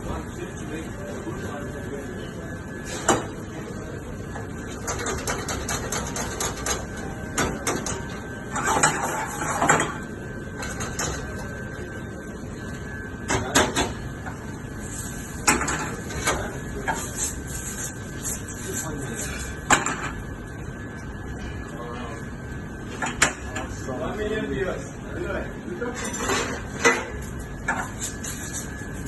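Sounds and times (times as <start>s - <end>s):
steady background noise: 0.0s - 29.0s.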